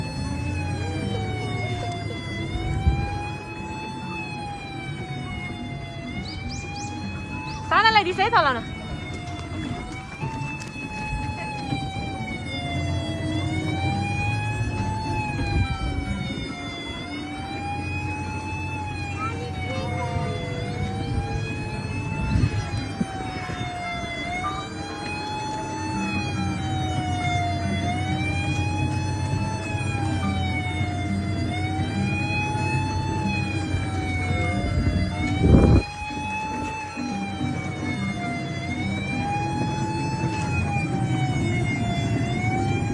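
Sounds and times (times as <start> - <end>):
police siren wailing: 0.0 - 42.9.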